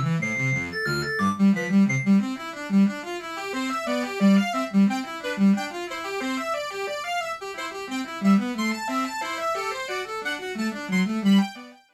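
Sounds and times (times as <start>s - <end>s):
background music with quick notes: 0.0s - 11.9s.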